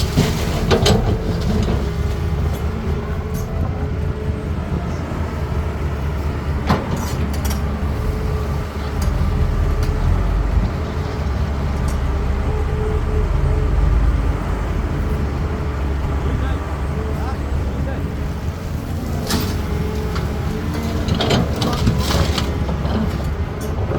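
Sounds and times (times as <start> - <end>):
excavator diesel engine working: 0.0 - 23.9.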